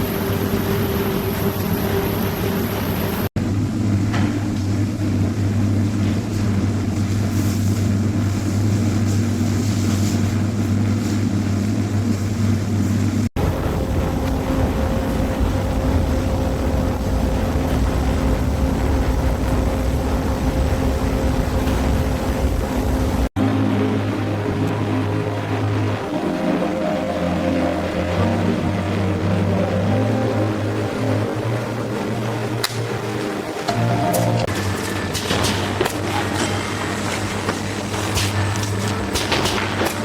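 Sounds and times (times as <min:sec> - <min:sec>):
faint steady whine: 0:00.0 - 0:40.0
machinery low hum: 0:00.0 - 0:40.0
noisy machine sound: 0:00.0 - 0:40.0.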